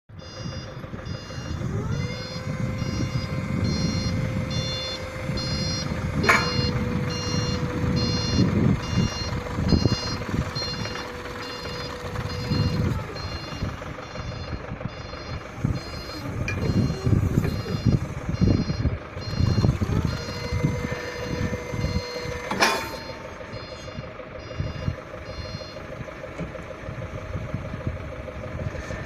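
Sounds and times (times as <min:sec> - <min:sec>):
forklift engine rumble: 0:00.1 - 0:29.0
reversing alarm beeping: 0:00.1 - 0:29.0
steady whine: 0:00.4 - 0:29.0.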